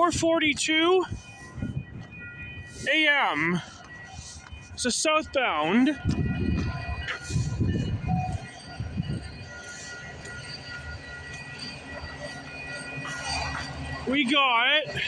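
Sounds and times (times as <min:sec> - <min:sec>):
diesel locomotives rumbling: 0:00.0 - 0:15.0
high-pitched ringing tones: 0:00.0 - 0:15.0.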